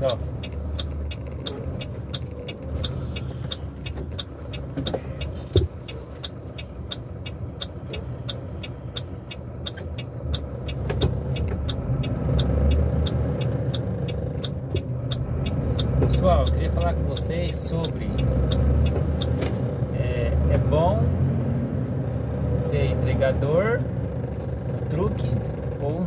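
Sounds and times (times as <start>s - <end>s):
truck engine running: 0.0s - 26.0s
turn signal ticking: 0.0s - 26.0s.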